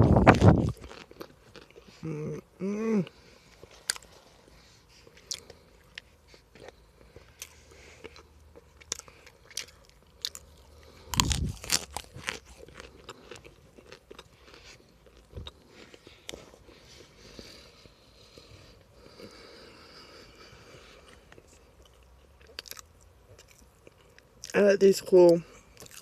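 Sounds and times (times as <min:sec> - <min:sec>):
chewing crunchy food: 0:00.0 - 0:26.0.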